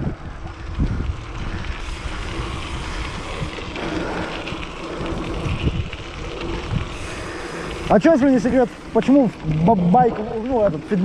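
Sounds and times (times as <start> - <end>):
mountain bike rumble: 0.0 - 11.0
wind buffeting microphone: 0.0 - 11.0.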